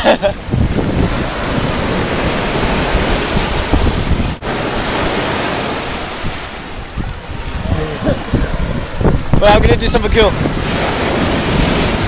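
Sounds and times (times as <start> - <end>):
sea surf on a beach: 0.0 - 12.0
wind buffeting microphone: 0.0 - 12.0.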